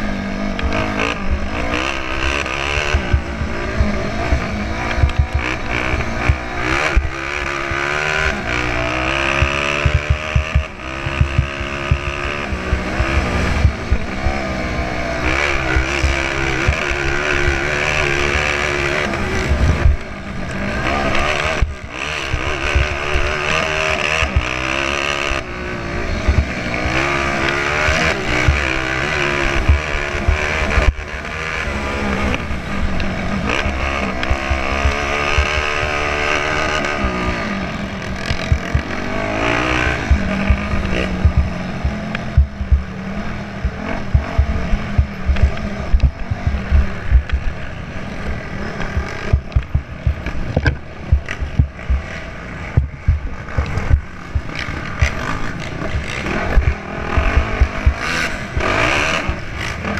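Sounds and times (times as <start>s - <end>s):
dirt bike engine revving: 0.0s - 59.9s
wind rumble on microphone: 0.0s - 59.9s.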